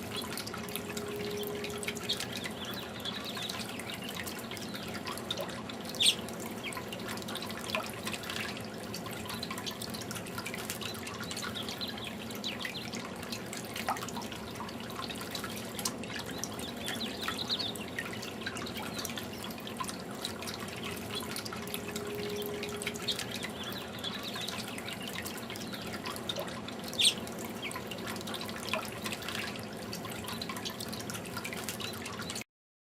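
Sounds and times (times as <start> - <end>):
fountain water trickling: 0.0 - 32.4.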